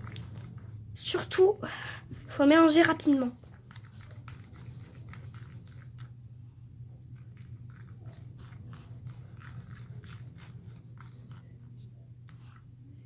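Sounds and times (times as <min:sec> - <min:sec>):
slime stirred with sticky clicks: 0:00.0 - 0:00.9, 0:02.2 - 0:06.2, 0:07.0 - 0:12.7.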